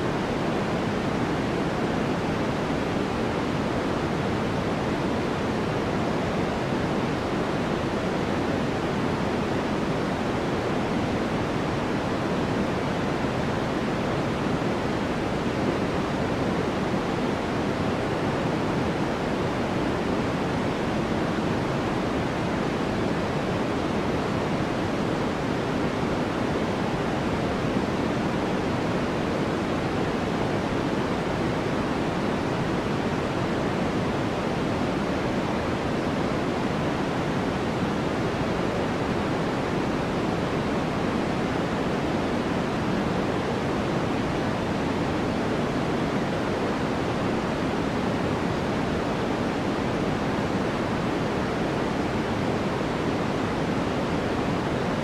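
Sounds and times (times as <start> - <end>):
dark white noise: 0.0 - 55.0.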